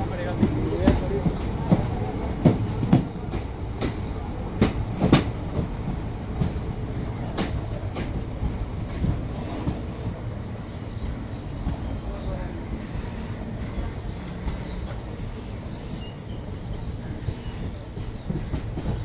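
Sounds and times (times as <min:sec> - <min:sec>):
train wheels rumbling on track: 0:00.0 - 0:19.0
wheels clacking over rail joints: 0:00.0 - 0:19.0.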